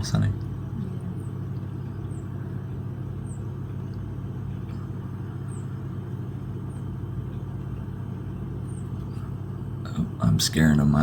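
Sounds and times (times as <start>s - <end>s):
low hum: 0.0s - 11.0s
songbird chirps: 0.1s - 9.9s.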